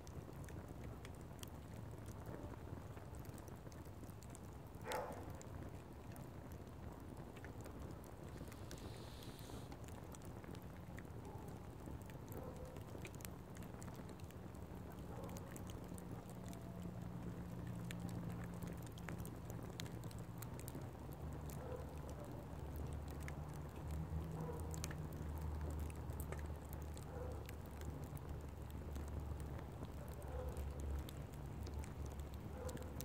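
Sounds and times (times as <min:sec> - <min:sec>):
fire crackling: 0:00.0 - 0:33.0.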